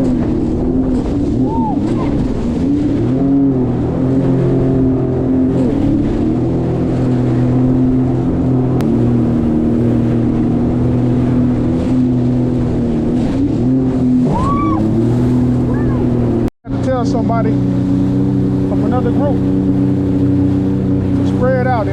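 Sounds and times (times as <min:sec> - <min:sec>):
jet ski engine running: 0:00.0 - 0:21.9.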